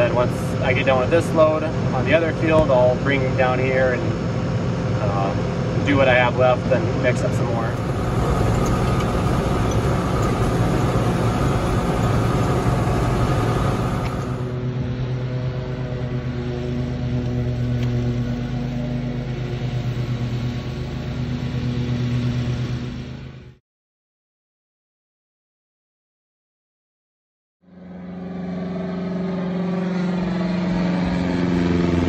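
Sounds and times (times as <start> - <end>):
lawn mower engine running: 0.0 - 23.3, 27.7 - 32.0
tractor engine running: 0.0 - 23.5, 27.7 - 32.0.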